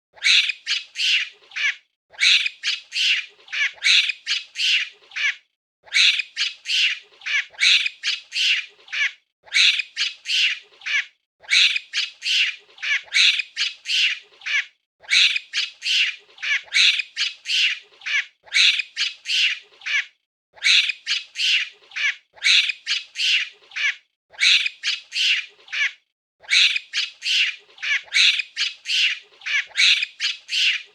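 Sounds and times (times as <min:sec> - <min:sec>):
monkey screeching: 0:00.2 - 0:30.9.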